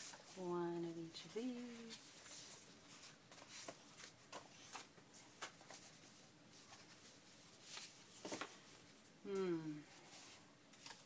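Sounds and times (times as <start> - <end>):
paper rustling: 0.0 - 8.9, 9.9 - 11.0.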